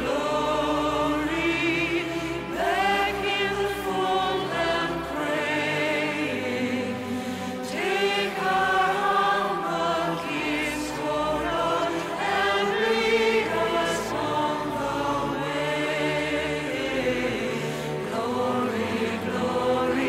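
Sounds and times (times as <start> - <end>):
choral singing: 0.0 - 20.0.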